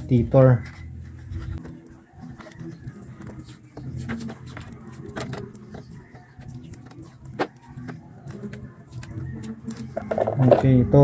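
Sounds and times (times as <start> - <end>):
electrical tape crackling: 0.0 - 11.0.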